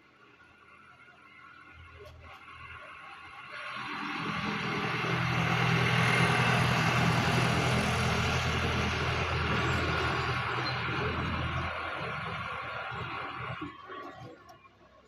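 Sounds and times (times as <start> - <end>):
engine running: 0.4 - 14.8.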